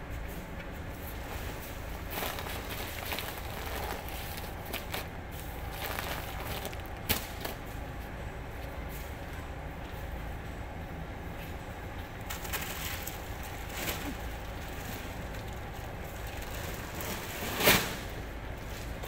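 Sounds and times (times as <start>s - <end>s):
warehouse background rumble: 0.0s - 19.0s.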